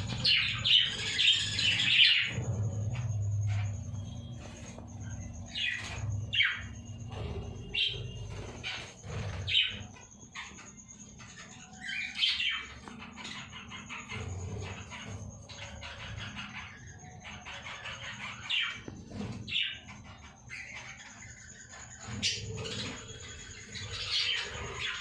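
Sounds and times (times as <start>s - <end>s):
budgerigars chirping and chattering: 0.0s - 25.0s.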